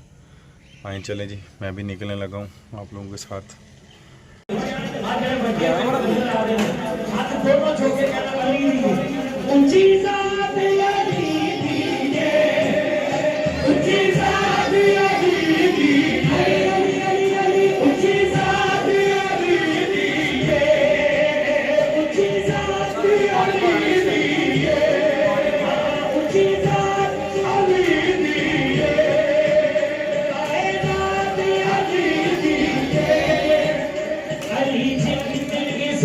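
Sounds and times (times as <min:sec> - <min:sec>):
voices singing: 0:04.5 - 0:36.0.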